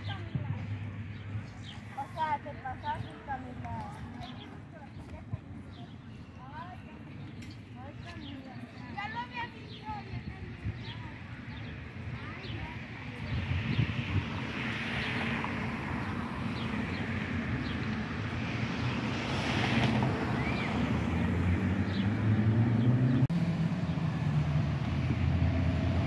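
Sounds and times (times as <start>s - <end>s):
bus engine approaching: 0.0s - 26.0s.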